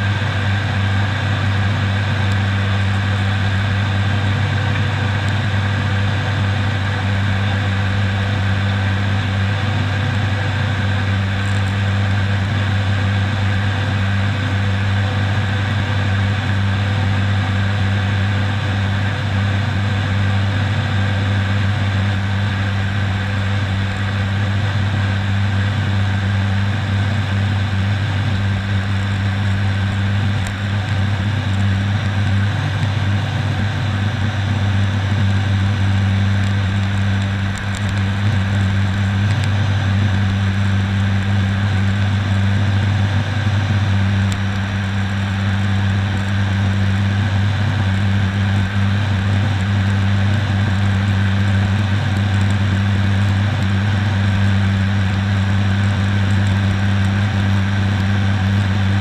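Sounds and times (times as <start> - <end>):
low propeller hum: 0.0 - 59.0.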